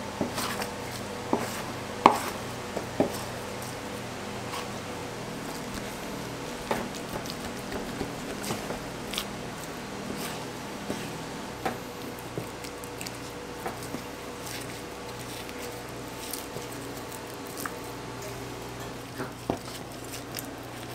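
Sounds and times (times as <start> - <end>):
background hum: 0.0 - 20.9.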